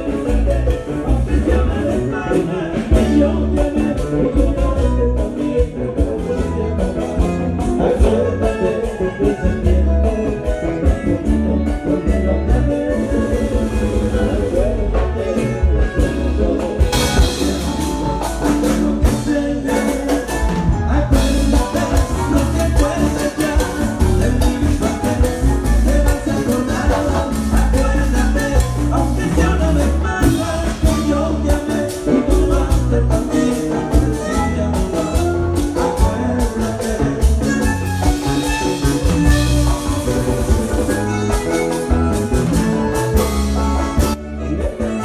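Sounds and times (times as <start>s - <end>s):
heavy bass: 0.0s - 45.0s
latin band playing live: 0.0s - 45.0s
person singing: 0.0s - 45.0s.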